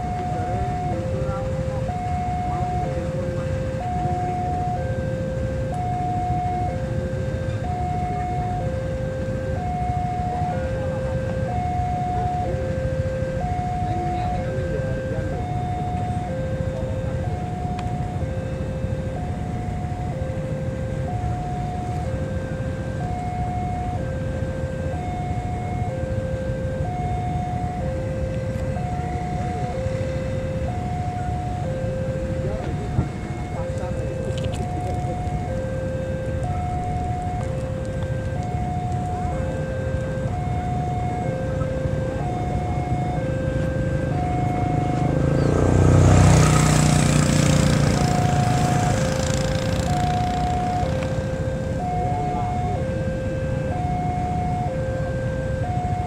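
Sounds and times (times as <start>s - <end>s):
diesel locomotive rumbling: 0.0s - 56.0s
two-tone level crossing alarm: 0.0s - 56.0s.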